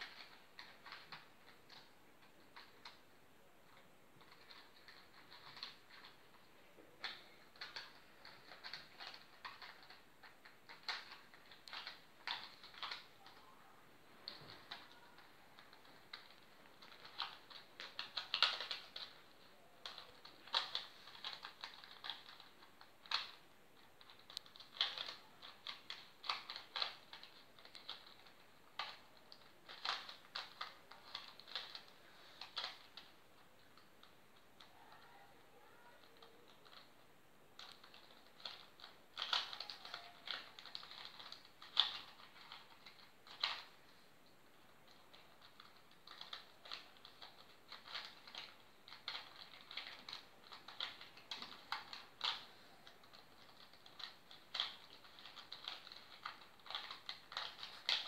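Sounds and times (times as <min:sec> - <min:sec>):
plastic puzzle cube clicking: 0:00.0 - 0:03.1, 0:03.7 - 0:06.4, 0:07.0 - 0:13.5, 0:14.2 - 0:35.0, 0:35.6 - 0:37.0, 0:37.6 - 0:43.8, 0:44.8 - 0:58.0.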